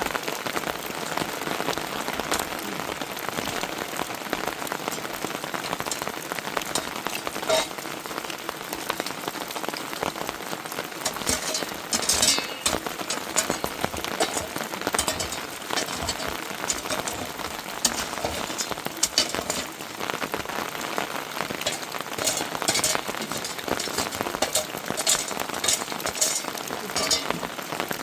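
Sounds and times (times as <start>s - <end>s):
rain falling: 0.0s - 28.0s
sharp raindrop strikes: 1.2s - 28.0s.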